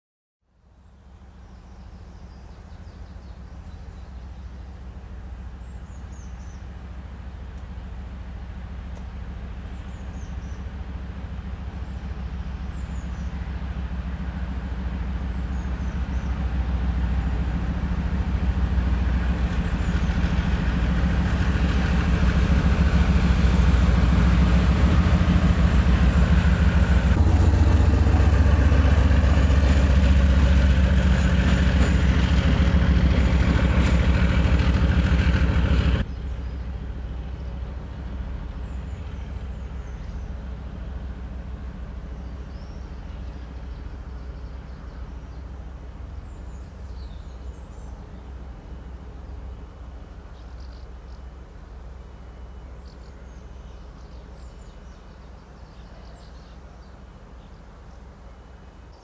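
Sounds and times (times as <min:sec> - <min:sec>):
diesel locomotive engine drone: 0:00.4 - 0:59.0.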